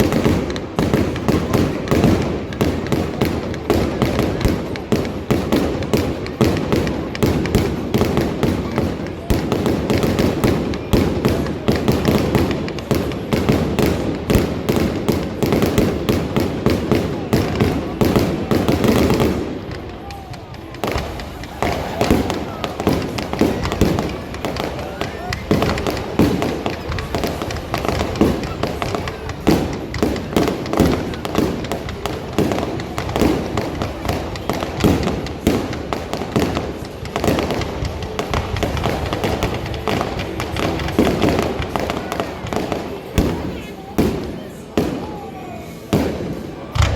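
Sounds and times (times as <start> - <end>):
continuous rumble: 0.0 - 46.9
fireworks booms and crackles: 0.0 - 46.9.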